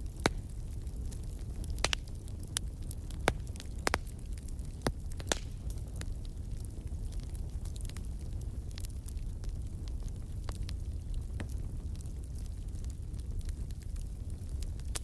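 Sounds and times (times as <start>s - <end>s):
low rumble of burning fire: 0.0s - 15.0s
wood fire snapping and popping: 0.0s - 15.0s.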